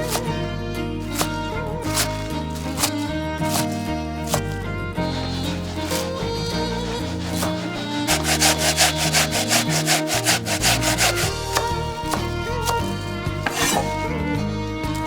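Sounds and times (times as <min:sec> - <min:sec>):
rubbing or scraping strokes: 0:00.0 - 0:00.4, 0:01.0 - 0:14.0.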